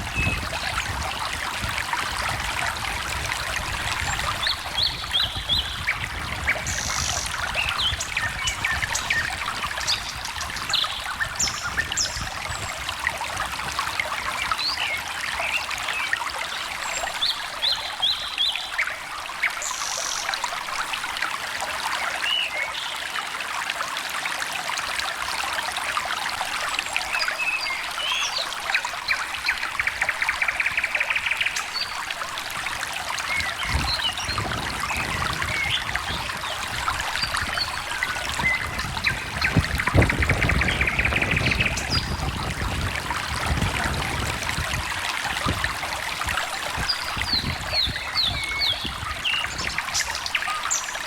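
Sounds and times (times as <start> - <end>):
stream babbling: 0.0 - 51.0.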